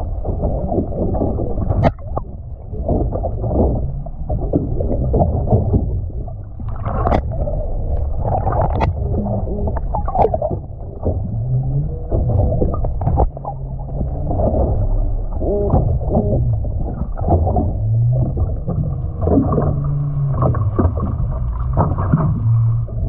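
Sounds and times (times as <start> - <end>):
low underwater hum: 0.0 - 23.0
underwater clicks and knocks: 0.0 - 23.0.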